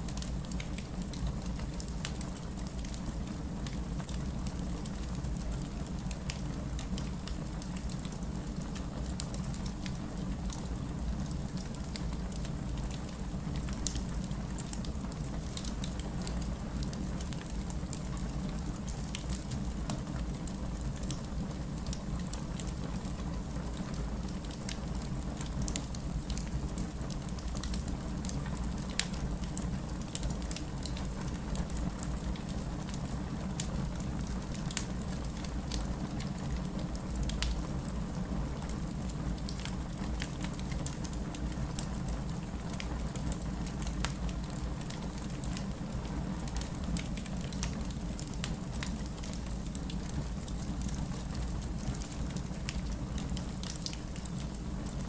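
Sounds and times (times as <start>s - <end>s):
low rumble of burning logs: 0.0s - 55.0s
wood fire crackling: 0.1s - 55.0s.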